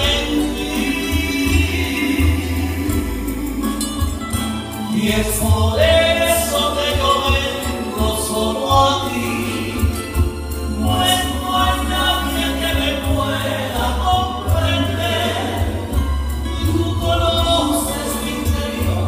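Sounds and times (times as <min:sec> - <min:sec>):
instrumental accompaniment with bass: 0:00.0 - 0:19.0
man singing into a microphone: 0:00.0 - 0:19.0.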